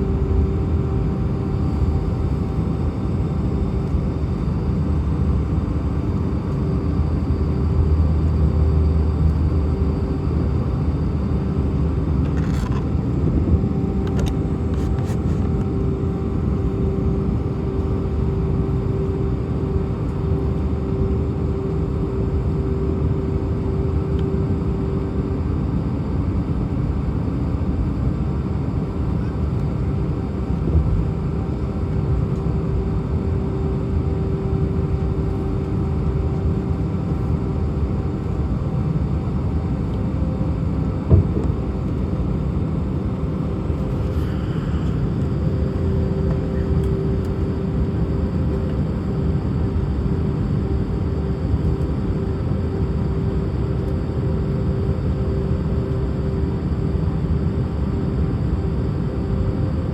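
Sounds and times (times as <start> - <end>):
jet engine cabin rumble: 0.0 - 59.9
steady hum: 0.0 - 59.9.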